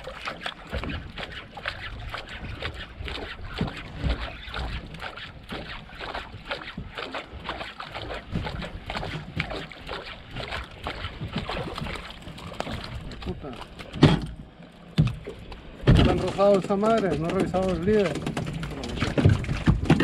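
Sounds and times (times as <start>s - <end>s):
water slapping against boat hull: 0.0s - 20.0s.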